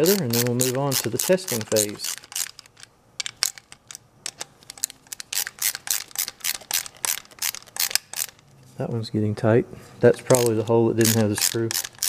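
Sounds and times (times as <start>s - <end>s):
ratcheting screwdriver clicking: 0.0s - 8.4s, 10.3s - 12.0s.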